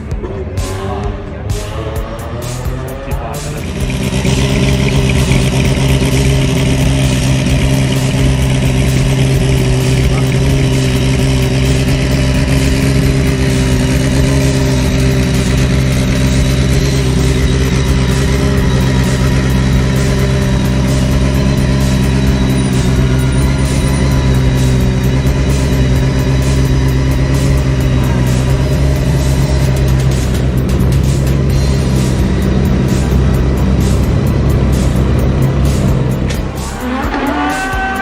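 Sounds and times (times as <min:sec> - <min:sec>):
rally car engine droning: 0:00.0 - 0:38.0.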